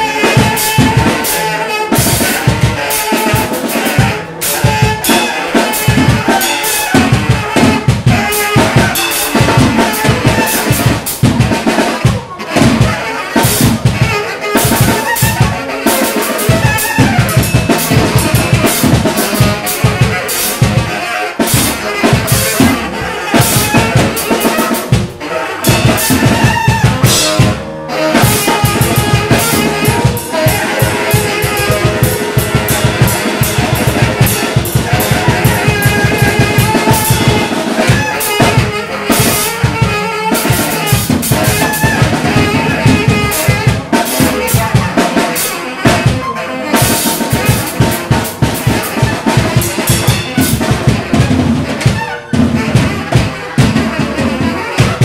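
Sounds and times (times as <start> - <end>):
drum kit played fast: 0.0 - 55.0
tenor saxophone: 0.0 - 55.0.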